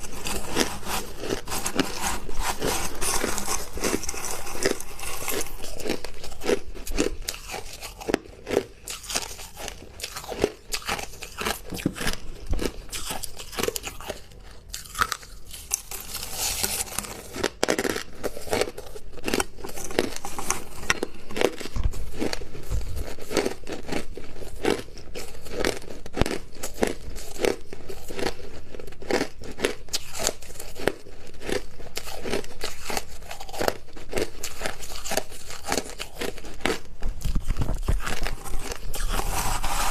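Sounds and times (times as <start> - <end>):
crunching ice being chewed: 0.0 - 39.9.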